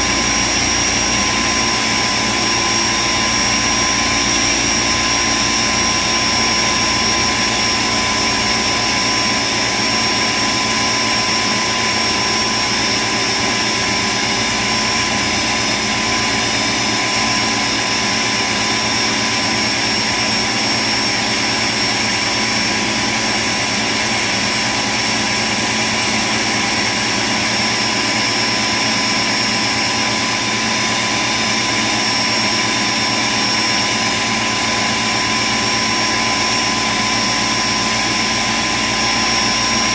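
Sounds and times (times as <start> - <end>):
high whine over motor: 0.0 - 39.9.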